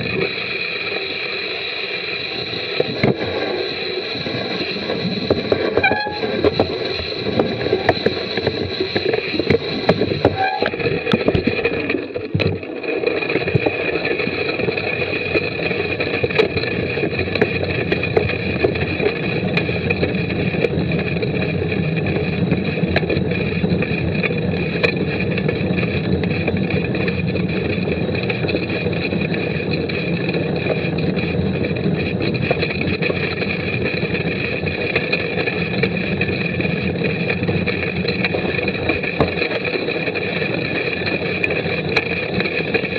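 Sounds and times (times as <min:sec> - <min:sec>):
bike rattling and clicking: 0:00.0 - 0:42.9
bike tyre noise: 0:00.0 - 0:42.9.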